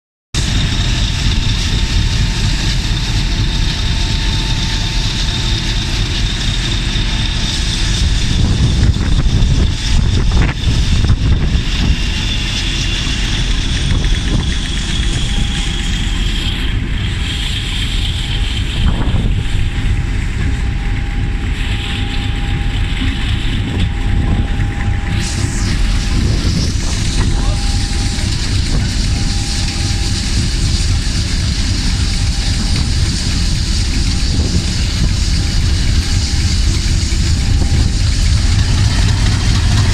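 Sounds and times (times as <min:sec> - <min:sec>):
diesel locomotive engine rumbling: 0:00.3 - 0:39.9
steam locomotive pulling away: 0:00.4 - 0:39.9
wind buffeting microphone: 0:00.4 - 0:39.9.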